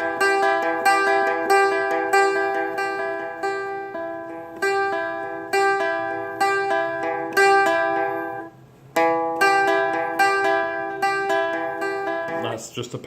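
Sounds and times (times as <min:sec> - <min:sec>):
strummed stringed instrument: 0:00.0 - 0:13.0.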